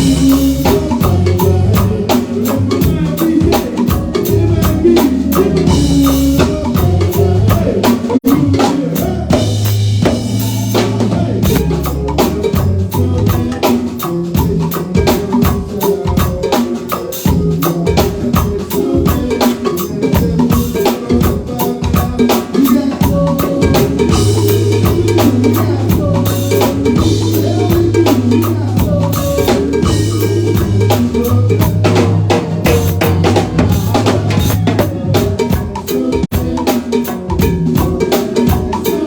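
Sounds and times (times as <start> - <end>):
drum kit beat: 0.0 - 39.0
live band playing: 0.0 - 39.0.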